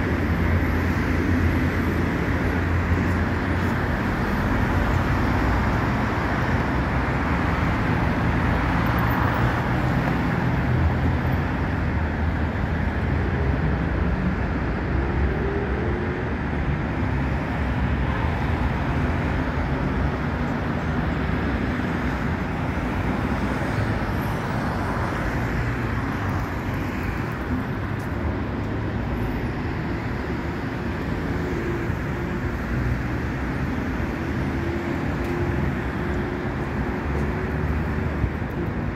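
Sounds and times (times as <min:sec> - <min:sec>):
city road traffic: 0:00.0 - 0:38.9.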